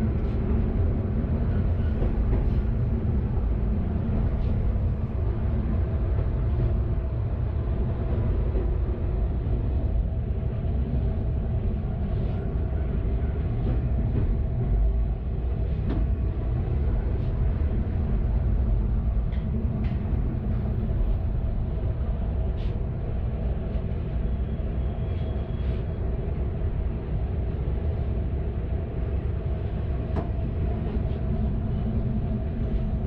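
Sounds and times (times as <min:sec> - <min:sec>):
diesel railcar engine drone: 0:00.0 - 0:33.0.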